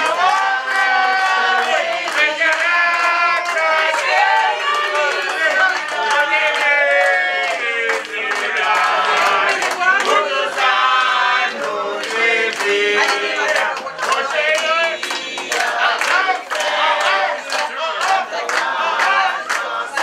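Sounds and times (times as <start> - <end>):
group of people singing: 0.0 - 20.0
hands clapping in time: 0.0 - 20.0.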